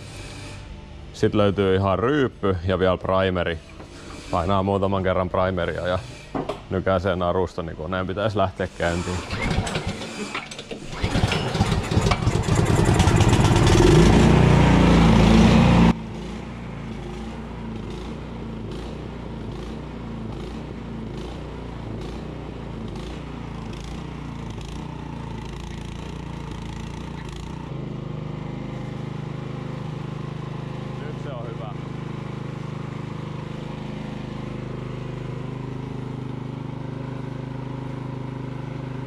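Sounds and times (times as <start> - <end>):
snowblower engine running: 0.0 - 6.2, 7.9 - 39.0.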